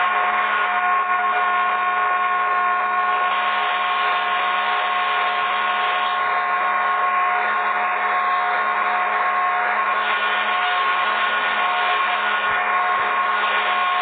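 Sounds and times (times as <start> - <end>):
ceiling fan whirring: 0.0 - 14.0.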